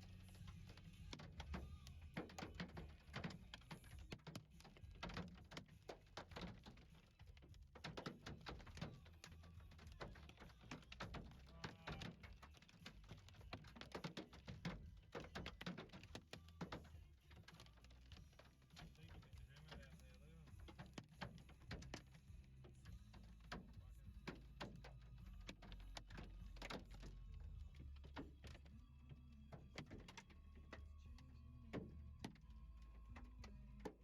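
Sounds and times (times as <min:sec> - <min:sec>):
hailstones ticking on hard surface: 0:00.7 - 0:22.2, 0:23.0 - 0:30.8.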